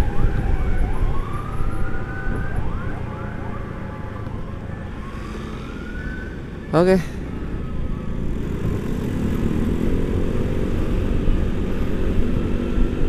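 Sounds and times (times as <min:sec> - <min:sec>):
emergency sirens wailing: 0:00.0 - 0:13.0
motorcycle road noise: 0:00.0 - 0:13.0.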